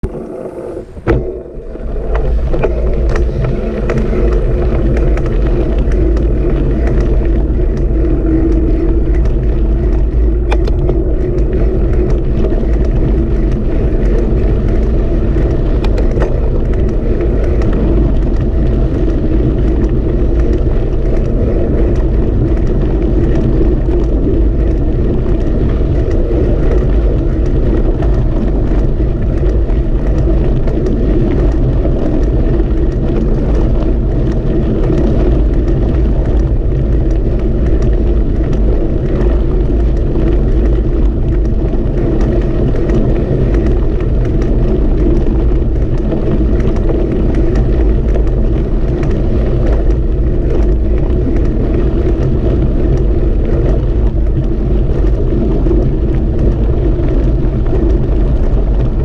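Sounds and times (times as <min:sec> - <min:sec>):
vehicle engine running steadily: 0:00.0 - 0:59.0.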